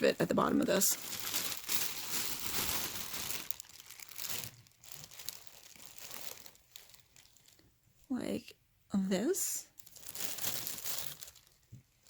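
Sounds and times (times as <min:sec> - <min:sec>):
plastic bag crinkling: 0:00.0 - 0:07.7, 0:09.7 - 0:12.0.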